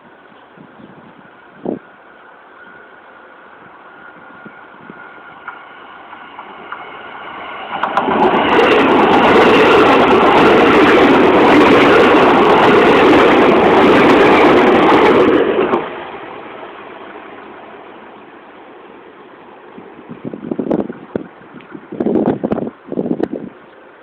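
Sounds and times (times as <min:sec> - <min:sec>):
train wheels rushing on rail: 0:00.0 - 0:24.0.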